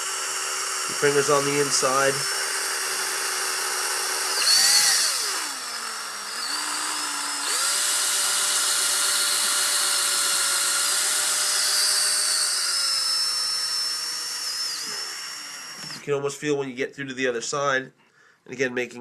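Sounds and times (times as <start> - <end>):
electric drill motor whining: 0.0 - 16.1.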